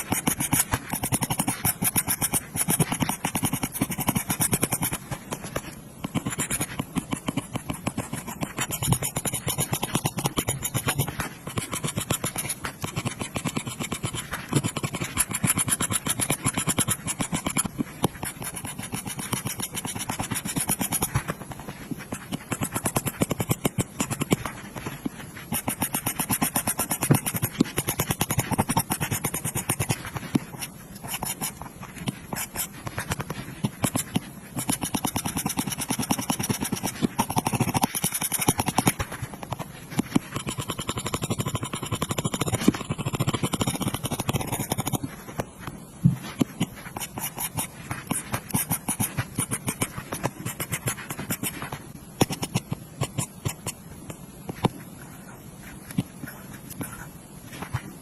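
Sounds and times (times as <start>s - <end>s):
stylus tapping and scratching on glass: 0.0s - 54.9s.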